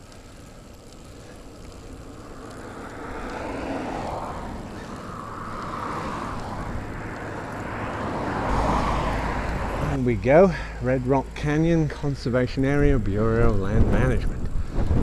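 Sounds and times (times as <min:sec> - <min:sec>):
vehicle engine and tyre noise: 0:00.0 - 0:15.0.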